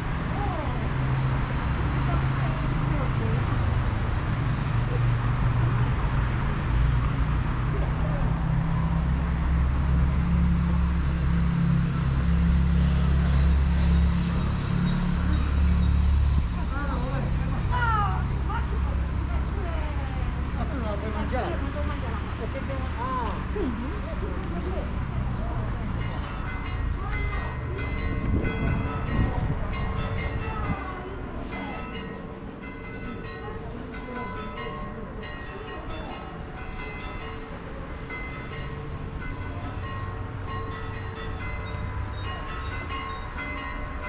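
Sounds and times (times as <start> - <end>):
heavy vehicle rumble: 0.0 - 44.0
street noise: 0.0 - 44.0.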